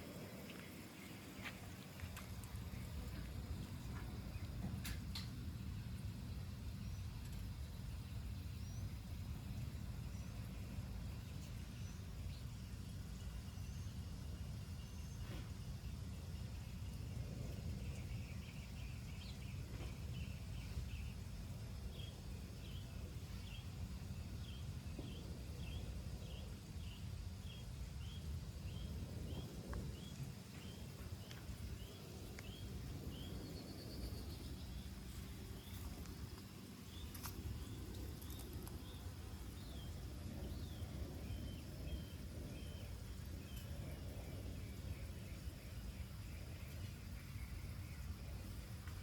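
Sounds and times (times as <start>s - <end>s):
low outdoor rumble: 0.0s - 49.0s.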